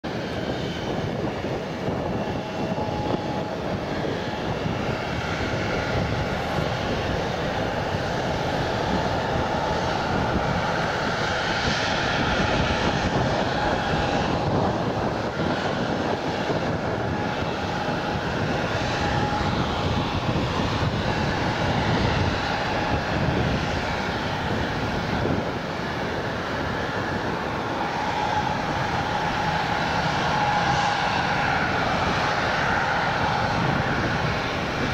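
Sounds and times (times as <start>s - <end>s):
jet engines running with whine: 0.0s - 34.9s.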